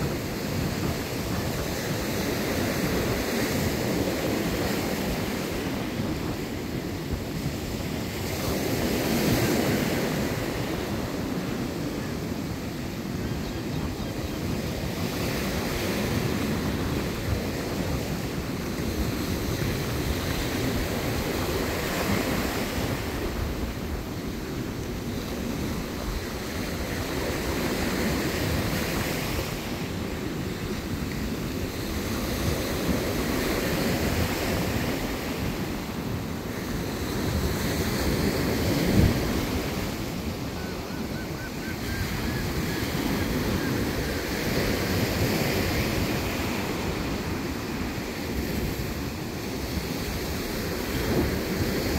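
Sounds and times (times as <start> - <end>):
ocean surf breaking: 0.0 - 51.9
wind buffeting microphone: 0.0 - 51.9.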